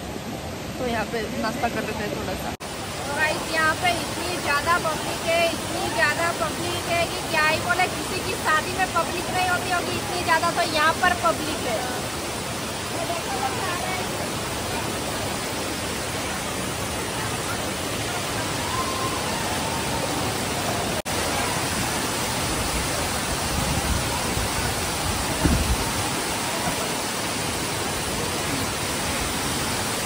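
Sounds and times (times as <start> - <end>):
waterfall cascading over rocks: 0.0 - 30.0.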